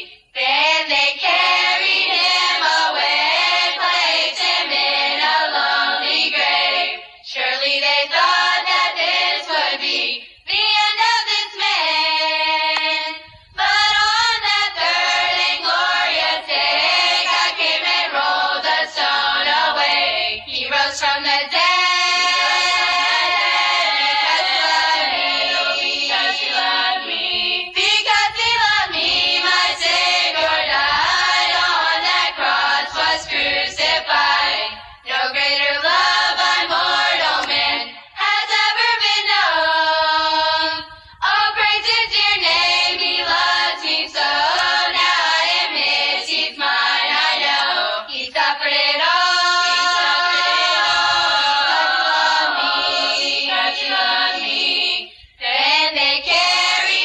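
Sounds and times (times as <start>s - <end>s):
girls choir singing: 0.0s - 57.0s.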